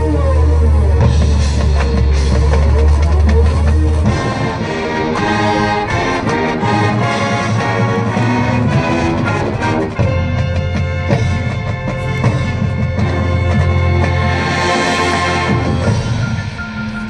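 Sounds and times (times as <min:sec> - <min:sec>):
deep sustained bass tone: 0:00.0 - 0:17.0
marching band playing: 0:00.0 - 0:17.0.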